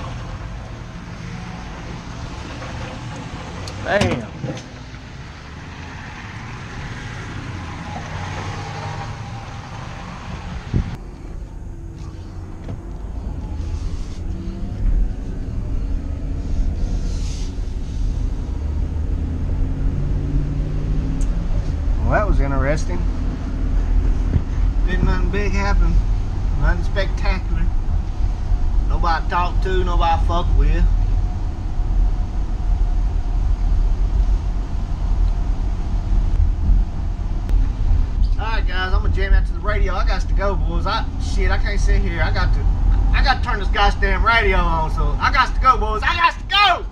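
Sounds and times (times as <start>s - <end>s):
van engine and road rumble: 0.0s - 46.9s.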